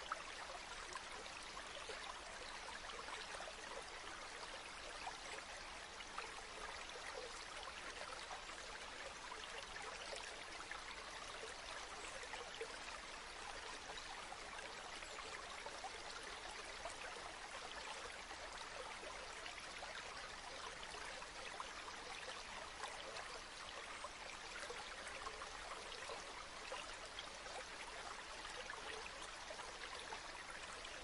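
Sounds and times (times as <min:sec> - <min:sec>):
river water babbling: 0:00.0 - 0:31.0.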